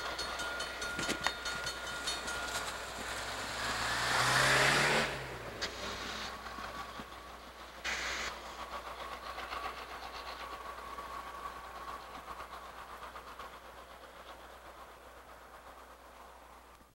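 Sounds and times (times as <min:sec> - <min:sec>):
train wheels clacking: 0:00.0 - 0:16.9.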